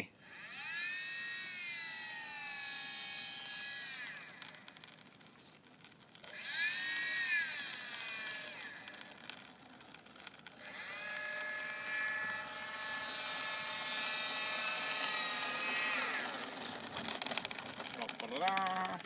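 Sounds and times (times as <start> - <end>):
model plane electric motor whining: 0.0 - 19.0.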